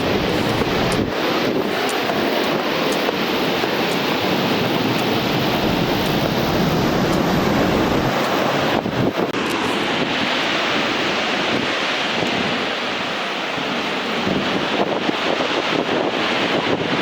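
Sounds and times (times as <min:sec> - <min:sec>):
waterfall pouring and splashing: 0:00.0 - 0:17.0.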